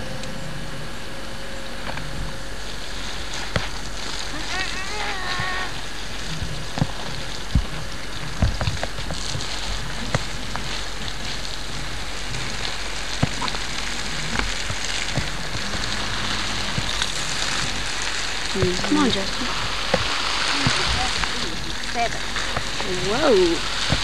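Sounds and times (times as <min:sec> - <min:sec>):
steady hiss: 0:00.0 - 0:24.0
small clicks and crackles: 0:01.8 - 0:24.0.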